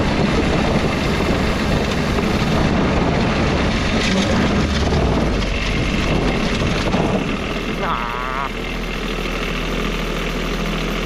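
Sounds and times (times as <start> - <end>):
small diesel engine running: 0.0 - 11.0.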